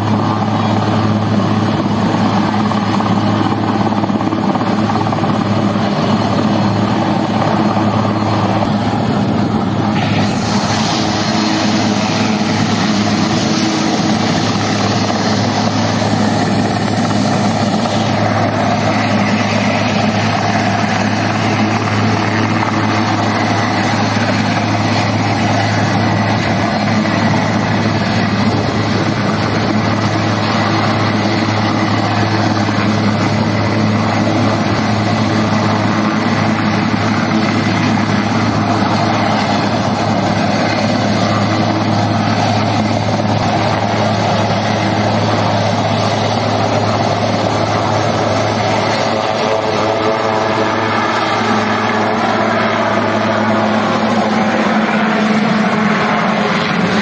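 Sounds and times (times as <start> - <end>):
helicopter hovering drone: 0.0 - 57.0.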